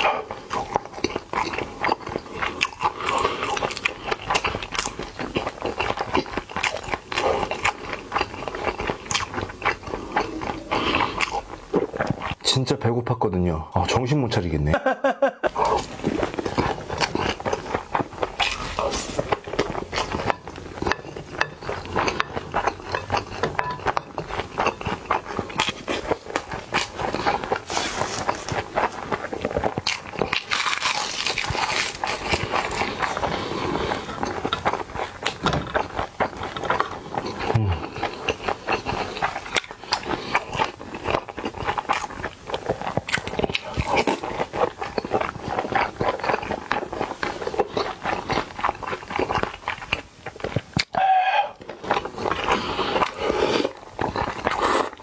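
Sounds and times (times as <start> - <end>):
wet chewing and lip-smacking: 0.0 - 12.5, 15.5 - 55.0.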